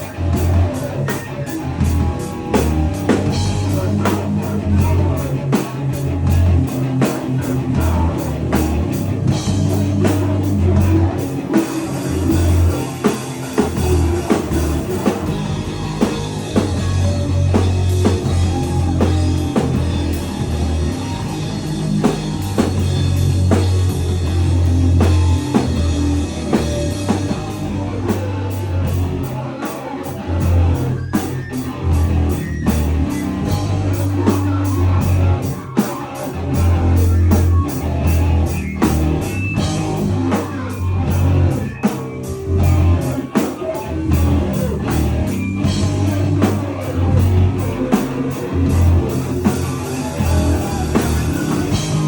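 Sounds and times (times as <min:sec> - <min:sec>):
band playing loud and fast: 0:00.0 - 0:52.0
distorted guitar: 0:00.0 - 0:52.0
drum kit: 0:00.0 - 0:52.0
heavy bass: 0:00.0 - 0:52.0.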